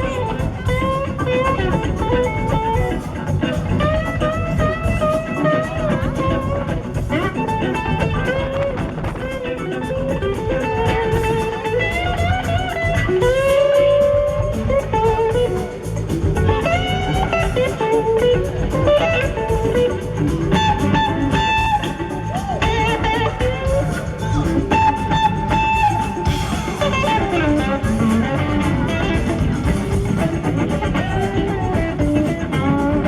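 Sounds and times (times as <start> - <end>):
electric guitar bending notes: 0.0 - 33.0
live band playing soul-rock: 0.0 - 33.0.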